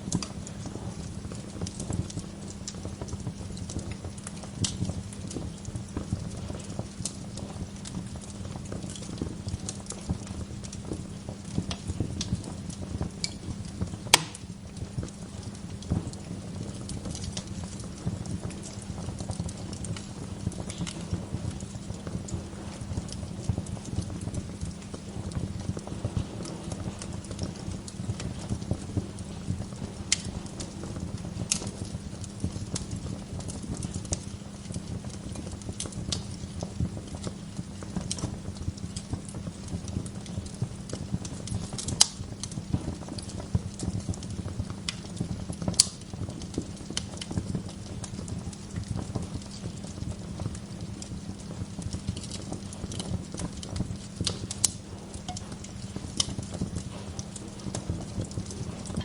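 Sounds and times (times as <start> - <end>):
fire low rumble: 0.0 - 59.0
wood fire crackling and popping: 0.0 - 59.0.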